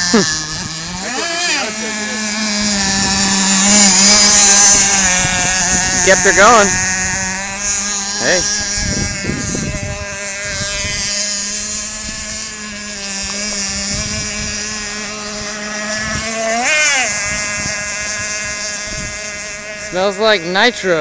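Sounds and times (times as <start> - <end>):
model boat engine screaming: 0.0 - 21.0.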